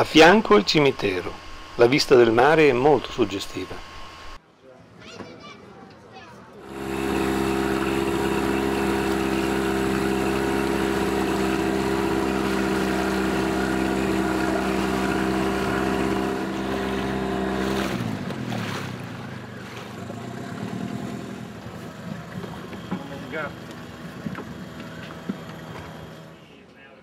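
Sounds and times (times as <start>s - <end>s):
small outboard motor running: 0.0s - 4.4s, 6.6s - 26.5s.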